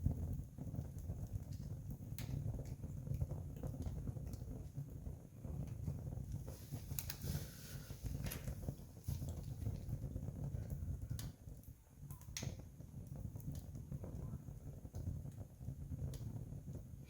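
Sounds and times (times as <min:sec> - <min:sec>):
campfire crackling and popping: 0:00.0 - 0:17.0
low steady fire rumble: 0:00.0 - 0:17.0.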